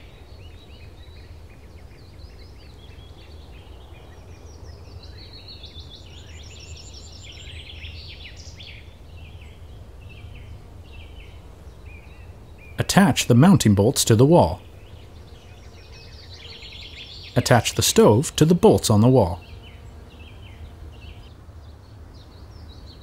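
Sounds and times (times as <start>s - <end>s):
birds chirping and singing: 0.0s - 23.0s.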